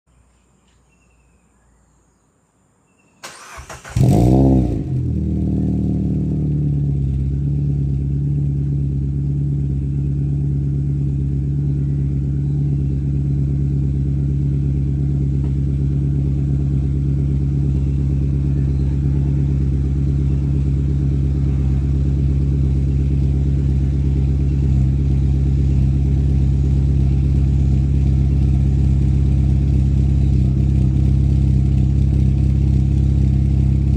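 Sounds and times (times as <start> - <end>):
car engine idling: 3.3 - 33.9.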